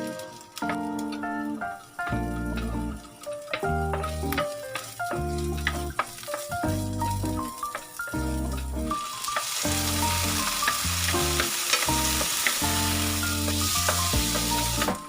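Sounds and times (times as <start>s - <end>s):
background music of held notes: 0.0s - 15.0s
food sizzling in a pan: 0.0s - 15.0s.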